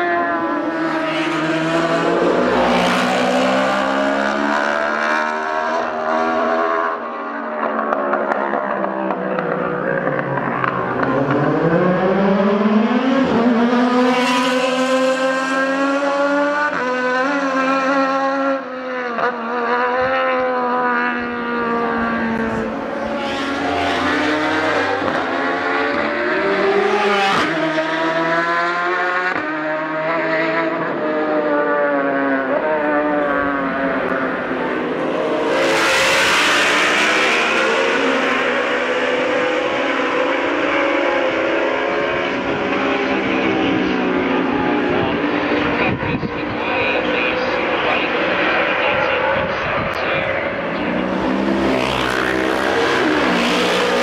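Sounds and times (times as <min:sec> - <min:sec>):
racing motorcycles accelerating: 0:00.0 - 0:54.0.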